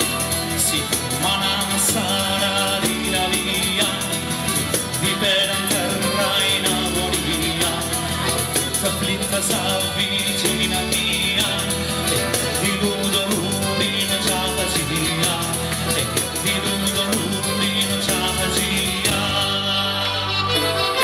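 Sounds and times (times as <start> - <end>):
fast tambourine rhythm: 0.0 - 21.0
strummed acoustic guitars: 0.0 - 21.0.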